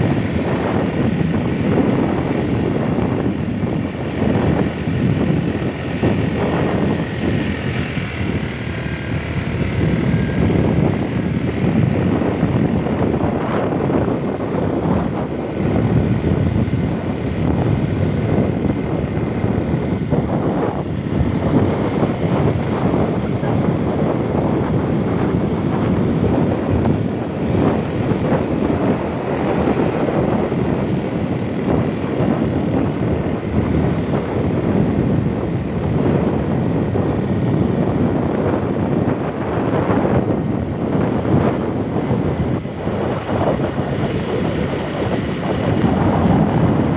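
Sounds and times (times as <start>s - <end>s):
vehicle rumble: 0.0s - 46.9s
wind buffeting microphone: 0.0s - 46.9s.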